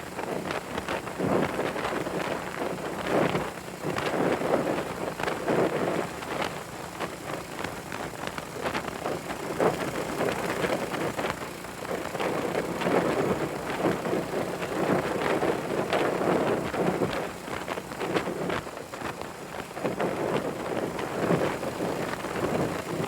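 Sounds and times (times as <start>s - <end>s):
motorcycle engine: 0.0s - 23.0s
road noise: 0.0s - 23.0s
wind buffeting microphone: 0.0s - 23.0s.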